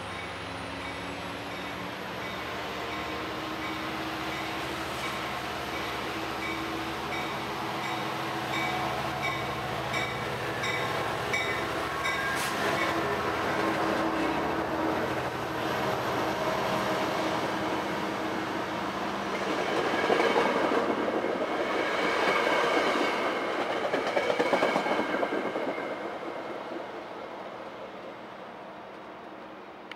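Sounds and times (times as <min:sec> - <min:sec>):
train coaches rumbling past: 0:00.0 - 0:29.9.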